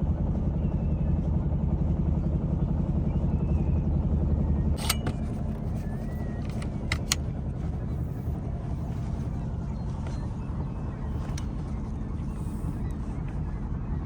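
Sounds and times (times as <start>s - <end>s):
boat motor low rumble: 0.0s - 14.0s.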